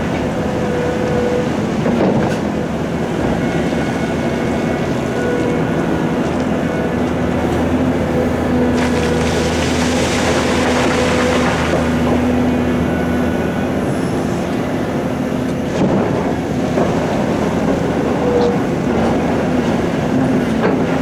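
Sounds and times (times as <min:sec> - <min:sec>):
heavy diesel engines under load: 0:00.0 - 0:21.0.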